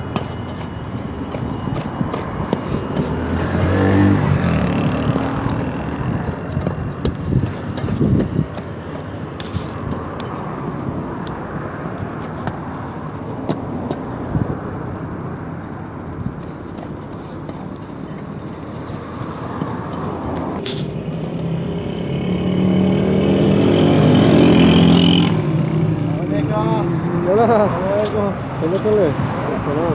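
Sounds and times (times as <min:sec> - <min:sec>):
vehicle engine approaching: 0:00.0 - 0:10.9, 0:14.3 - 0:29.9
roadside traffic noise: 0:00.0 - 0:29.9.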